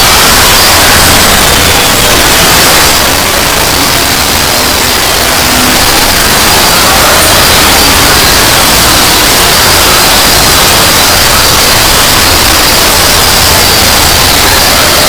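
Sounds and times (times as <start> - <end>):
loud distorted static noise: 0.0 - 15.0.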